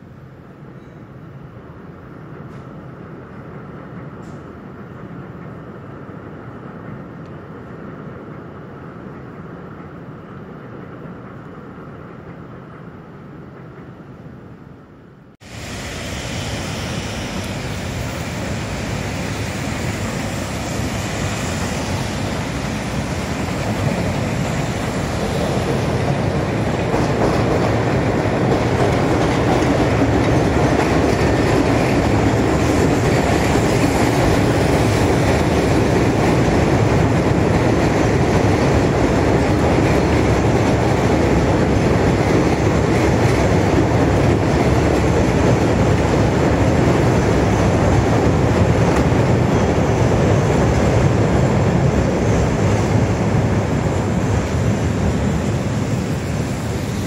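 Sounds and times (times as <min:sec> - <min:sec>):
train rumble and clatter: 0:00.0 - 0:57.0
train rumbling on elevated track: 0:00.0 - 0:57.0.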